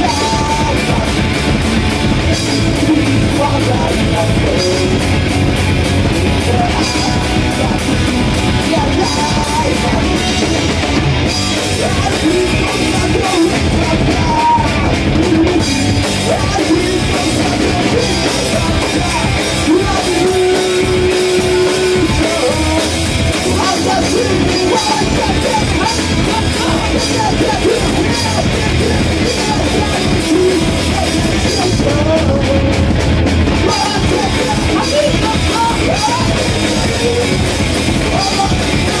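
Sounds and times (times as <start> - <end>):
drum kit: 0.0 - 39.0
electric guitar: 0.0 - 39.0
person singing: 0.0 - 39.0.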